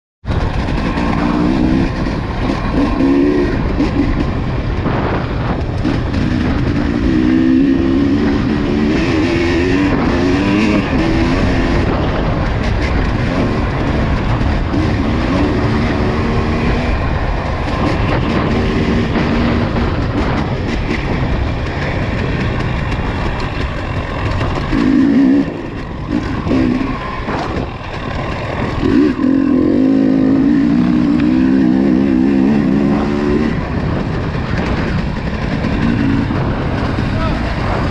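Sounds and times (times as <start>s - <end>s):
atv engine revving: 0.3s - 37.9s.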